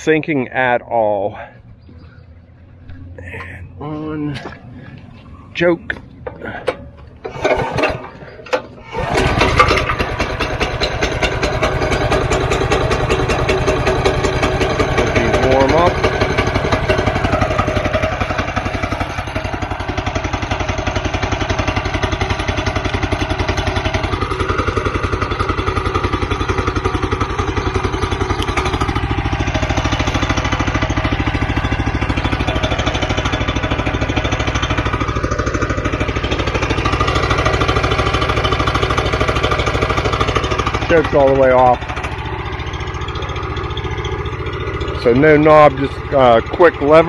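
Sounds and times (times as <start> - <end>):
gasoline engine running: 0.0 - 47.0.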